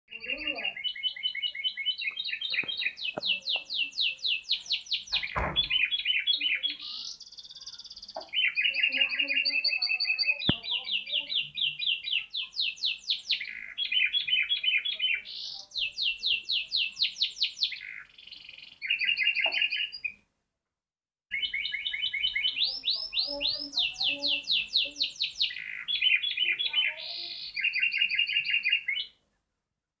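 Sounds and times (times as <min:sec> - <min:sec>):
canary singing trills: 0:00.1 - 0:20.2, 0:21.3 - 0:29.2.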